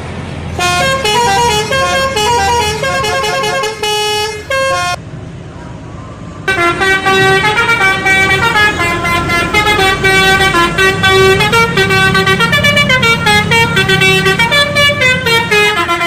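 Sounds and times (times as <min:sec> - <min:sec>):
bus engine running: 0:00.0 - 0:16.0
bus horn playing tune: 0:00.6 - 0:05.0, 0:06.5 - 0:16.0.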